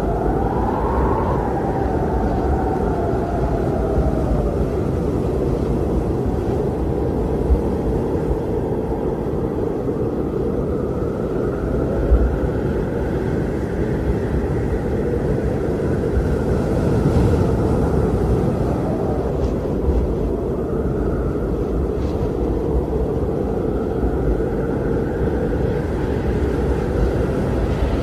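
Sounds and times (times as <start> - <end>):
low wind buffets: 0.0 - 28.0
strong wind rushing: 0.0 - 28.0.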